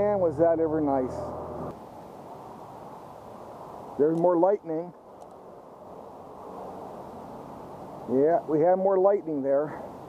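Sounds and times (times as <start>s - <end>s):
low outdoor background noise: 0.0s - 10.0s.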